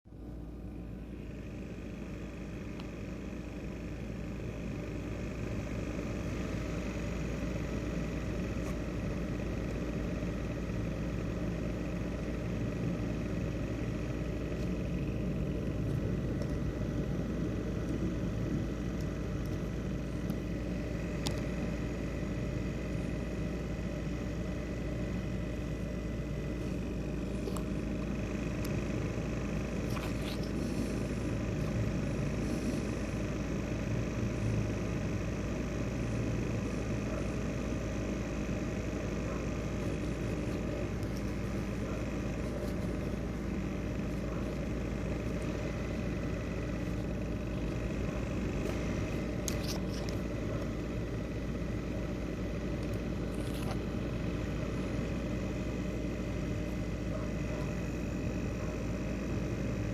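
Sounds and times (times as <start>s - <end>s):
laptop fan whirring with whine: 0.1s - 59.9s.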